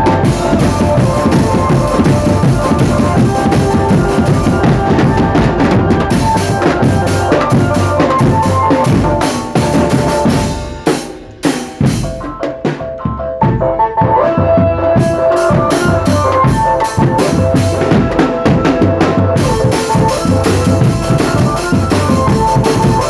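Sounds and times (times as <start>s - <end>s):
snare and bass drum beats: 0.0s - 23.0s
sustained melody line: 0.0s - 23.0s.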